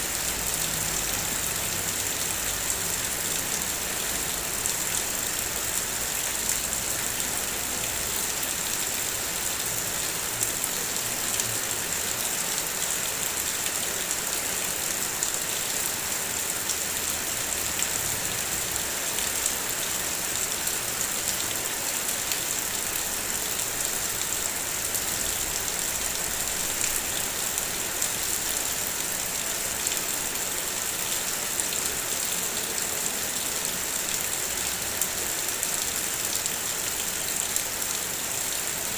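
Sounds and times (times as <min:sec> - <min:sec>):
heavy rain on a car: 0:00.1 - 0:38.9.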